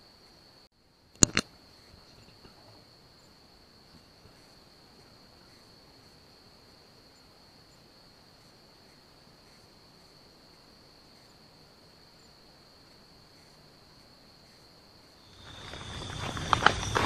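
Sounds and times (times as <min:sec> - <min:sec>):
insect trilling: 0:01.2 - 0:17.0.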